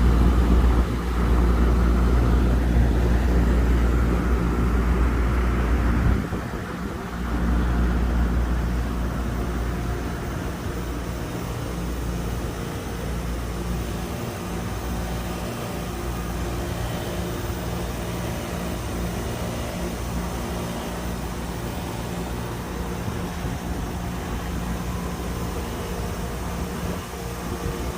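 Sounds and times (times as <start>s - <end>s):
air conditioner humming: 0.0s - 27.9s.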